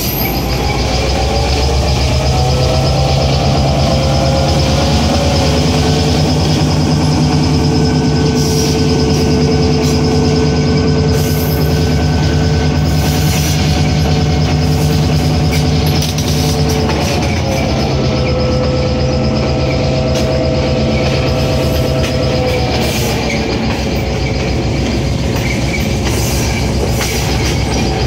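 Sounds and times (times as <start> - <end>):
diesel locomotive engine drone: 0.0 - 28.0
rolling train noise: 0.0 - 28.0.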